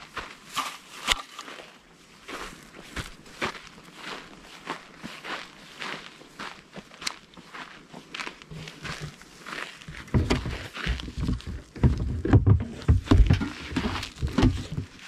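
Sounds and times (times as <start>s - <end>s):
footsteps through dry grass: 0.0s - 12.1s, 13.0s - 15.0s.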